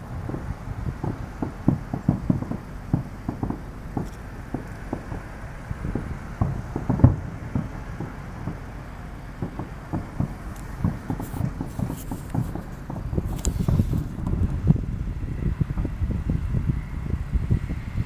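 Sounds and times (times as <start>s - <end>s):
distant fireworks booming: 0.0s - 18.0s
low rumble: 0.0s - 18.0s.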